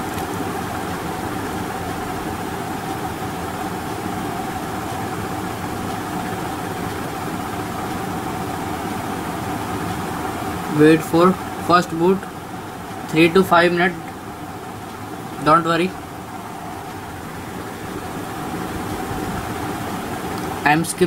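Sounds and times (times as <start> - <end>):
constant mid-pitched tone: 0.0 - 21.0
machine hum and hiss: 0.0 - 21.0.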